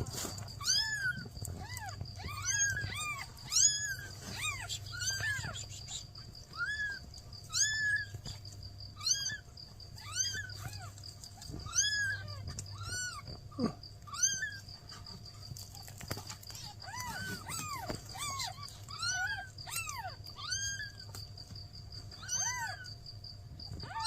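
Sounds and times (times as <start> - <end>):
kittens mewing: 0.0 - 21.3, 22.0 - 23.0, 23.6 - 24.0.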